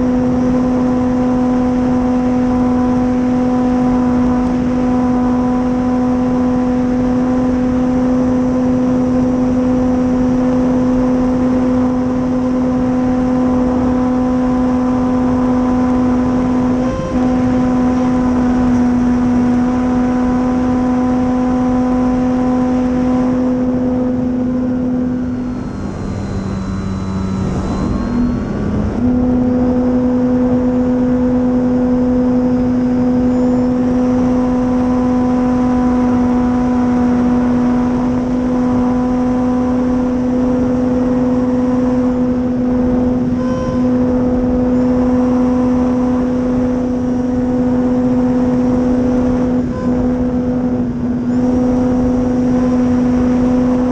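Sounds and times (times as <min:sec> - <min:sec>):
electric motor and propeller whine: 0:00.0 - 0:53.9.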